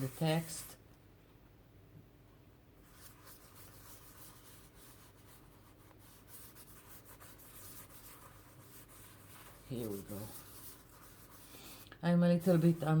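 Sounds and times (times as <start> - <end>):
sponge dabbing on paper: 0.0 - 0.8, 2.8 - 13.0.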